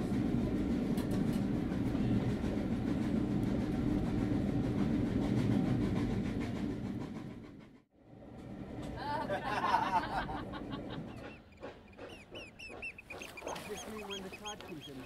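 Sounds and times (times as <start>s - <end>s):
train coach rumbling on rails: 0.0s - 15.0s.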